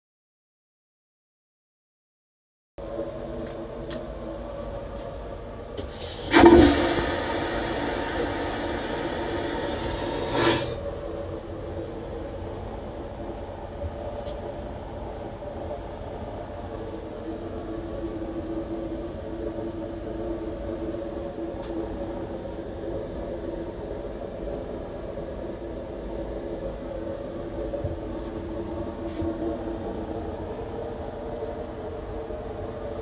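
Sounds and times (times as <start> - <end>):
airliner cabin drone: 2.8 - 33.0.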